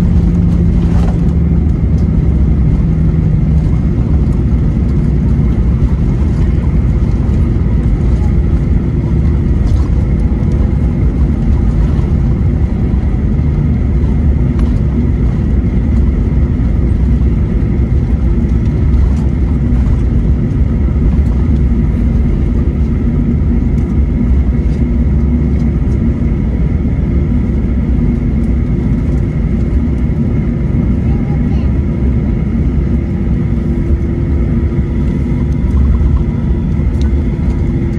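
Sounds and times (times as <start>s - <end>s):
airplane engines rumbling: 0.0s - 37.9s.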